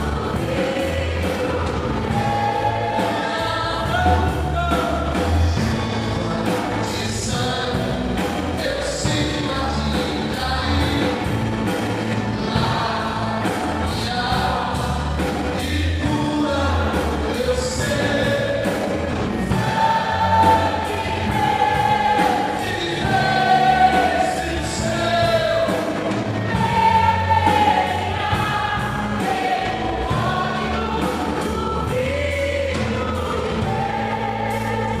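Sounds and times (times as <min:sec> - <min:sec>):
choir singing gospel song: 0:00.0 - 0:35.0.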